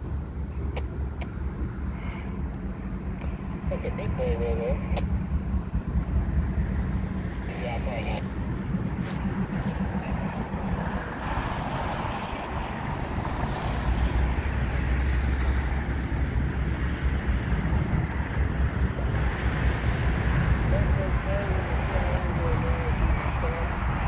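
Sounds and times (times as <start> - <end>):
train rumbling across steel bridge: 0.0 - 7.6, 8.2 - 24.0.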